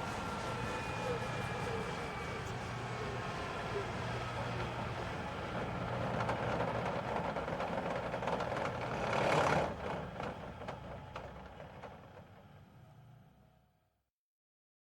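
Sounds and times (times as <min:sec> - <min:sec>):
helicopter engine and rotor running down: 0:00.0 - 0:12.4.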